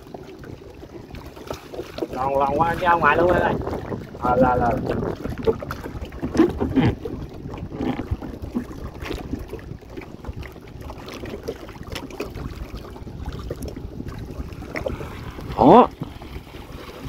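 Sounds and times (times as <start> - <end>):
choppy water: 0.0 - 17.0
water splashes: 0.0 - 17.0
wind buffeting microphone: 0.0 - 17.0.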